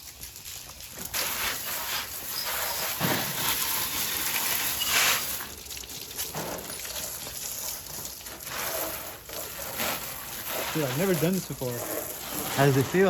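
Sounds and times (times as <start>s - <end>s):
hose water spraying on engine: 0.0s - 13.0s.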